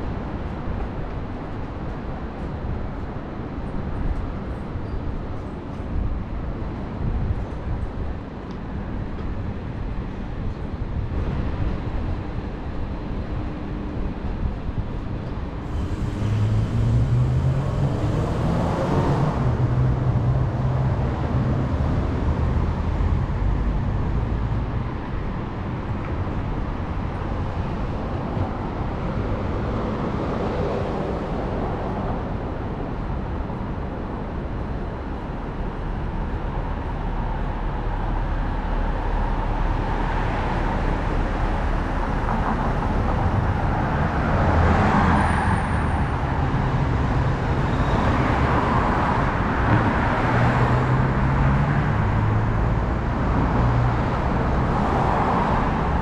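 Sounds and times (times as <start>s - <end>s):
heavy engine low rumble: 0.0s - 56.0s
vehicles passing on road: 0.0s - 56.0s.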